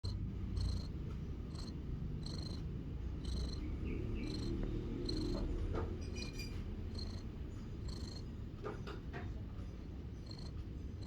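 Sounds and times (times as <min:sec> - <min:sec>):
cat purring: 0:00.0 - 0:09.1, 0:10.0 - 0:11.0.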